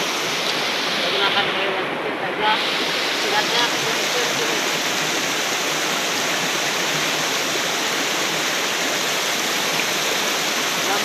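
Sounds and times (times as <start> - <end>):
river water rushing over stones: 0.0 - 11.0.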